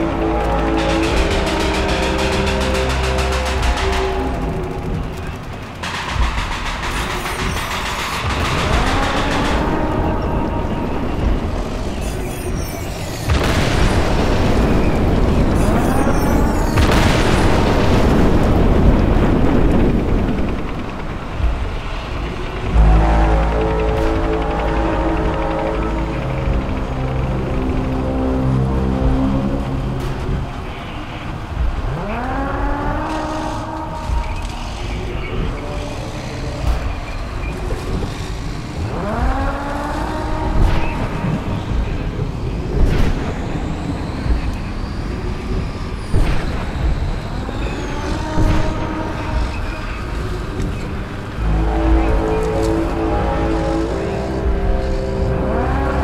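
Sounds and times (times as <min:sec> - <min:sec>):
horn-like tone sweeping upward: 0:00.0 - 0:17.2, 0:22.3 - 0:46.2, 0:47.3 - 0:56.0
explosions rumbling: 0:00.0 - 0:35.8, 0:36.5 - 0:53.6.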